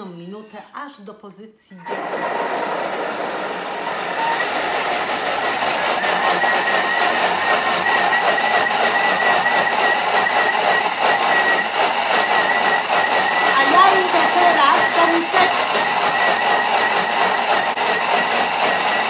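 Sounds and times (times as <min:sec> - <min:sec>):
food processor blending: 0:01.9 - 0:19.0.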